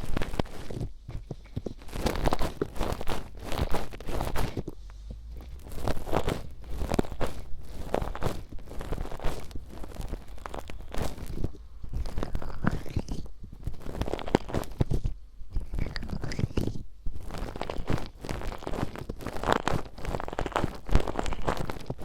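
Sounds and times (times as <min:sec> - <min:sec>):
ear picks scraping microphone: 0:00.0 - 0:22.0.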